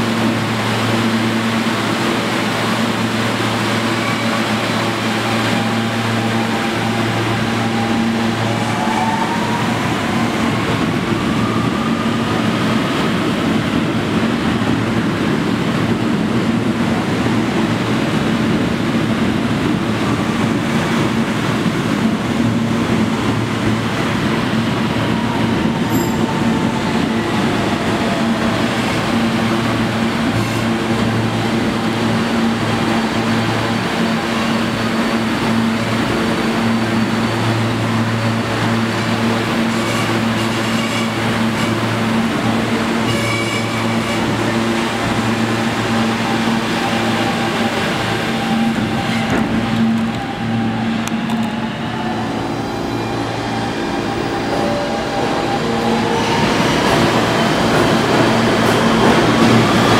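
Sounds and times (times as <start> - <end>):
subway train rumble: 0.0 - 59.9.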